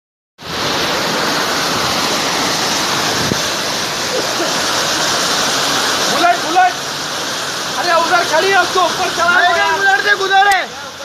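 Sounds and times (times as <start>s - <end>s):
floodwater rushing: 0.4s - 11.0s.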